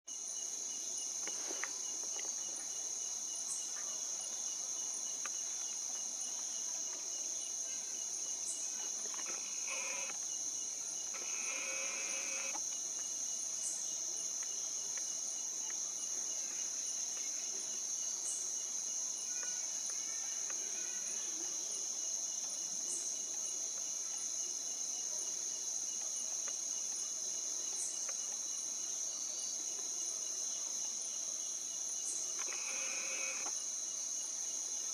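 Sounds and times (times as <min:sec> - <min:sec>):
insects droning: 0:00.1 - 0:34.9.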